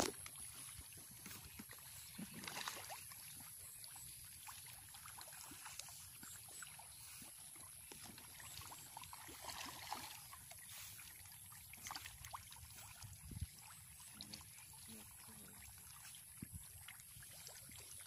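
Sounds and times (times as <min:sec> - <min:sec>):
water splashing and lapping: 0:00.0 - 0:18.0.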